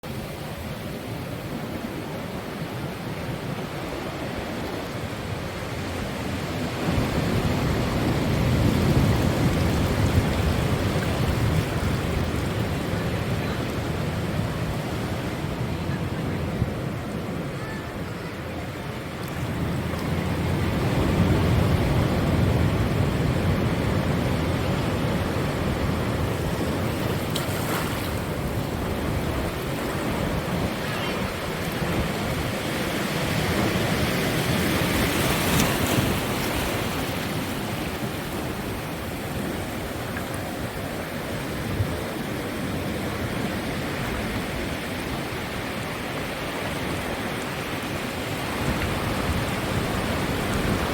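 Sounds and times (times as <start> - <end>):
surf washing against rocks: 0.0 - 50.9.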